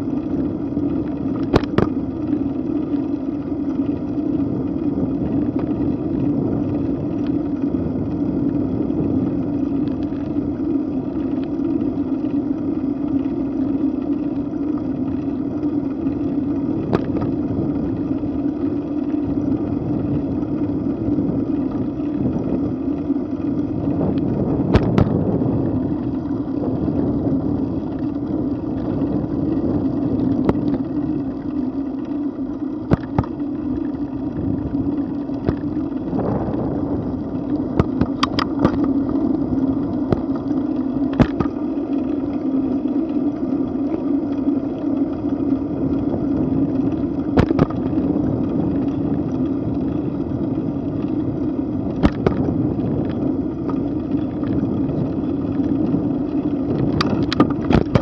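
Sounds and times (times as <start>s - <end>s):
bicycle tyres rumbling on asphalt: 0.0s - 58.0s
wind: 0.0s - 58.0s.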